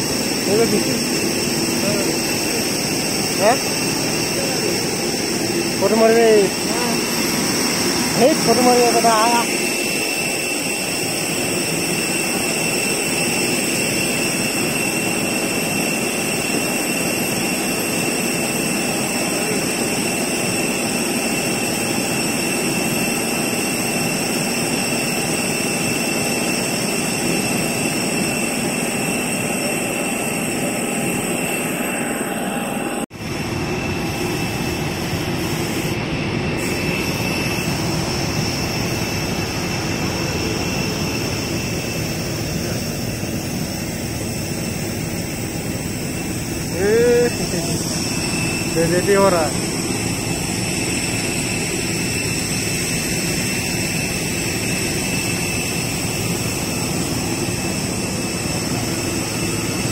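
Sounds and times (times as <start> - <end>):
high-pitched jet whine: 0.0 - 59.9
jet engine rushing: 0.0 - 59.9.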